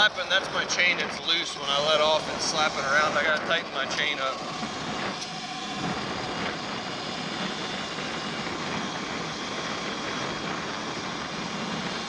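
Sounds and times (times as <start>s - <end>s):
wind and tyre noise: 0.0s - 12.0s.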